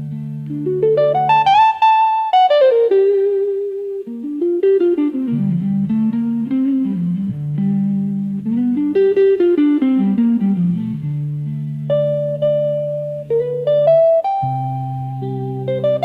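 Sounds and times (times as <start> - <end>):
blues guitar melody: 0.0 - 16.0.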